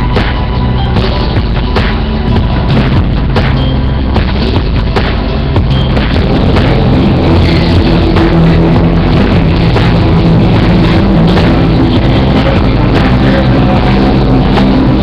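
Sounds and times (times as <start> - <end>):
loud music with low notes: 0.0 - 15.0.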